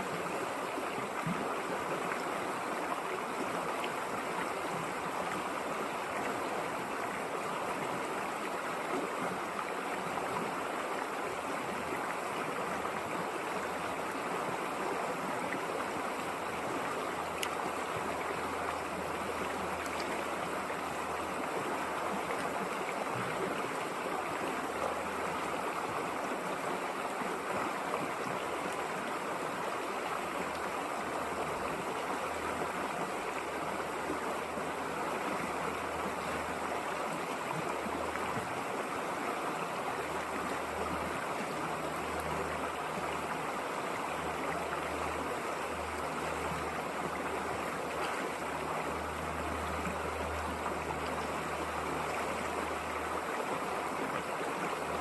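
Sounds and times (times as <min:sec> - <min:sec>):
river water rushing and babbling: 0:00.0 - 0:55.0.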